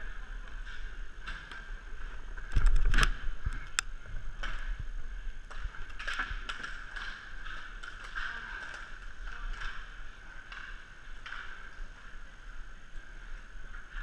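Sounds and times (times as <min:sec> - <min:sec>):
skate wheels whirring on tiles: 0:00.0 - 0:14.0.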